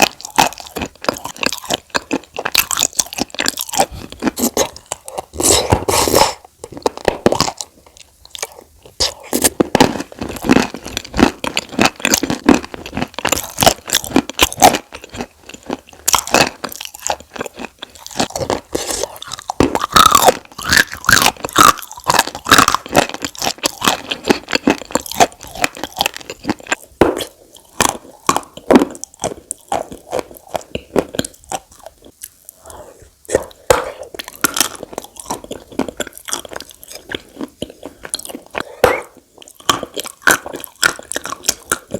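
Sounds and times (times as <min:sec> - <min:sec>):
chewing chalk crunches: 0:00.0 - 0:41.9.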